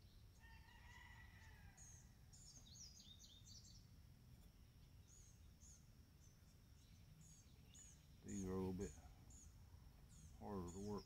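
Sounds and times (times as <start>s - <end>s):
faint bird chirps: 0.0s - 3.9s, 4.7s - 11.0s.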